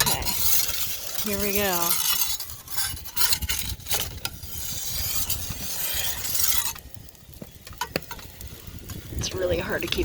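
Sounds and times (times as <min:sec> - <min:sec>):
metal scraping and rubbing: 0:00.0 - 0:10.0.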